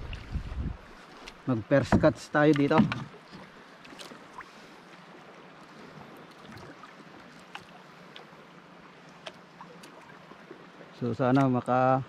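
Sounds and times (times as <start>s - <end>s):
faint water: 0.0s - 12.0s
wind: 0.0s - 12.0s.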